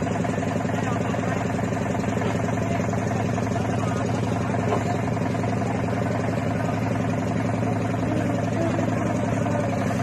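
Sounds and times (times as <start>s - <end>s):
motorboat engine running: 0.0s - 10.0s.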